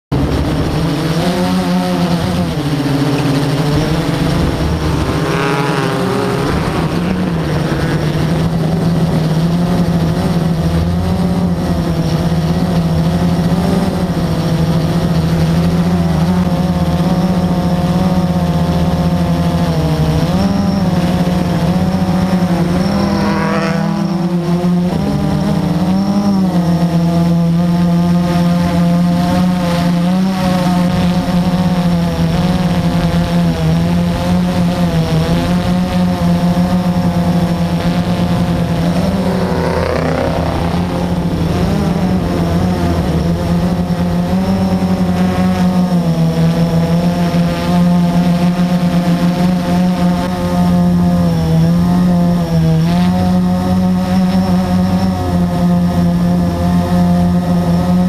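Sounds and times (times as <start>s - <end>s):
quadcopter motors droning: 0.1s - 58.0s.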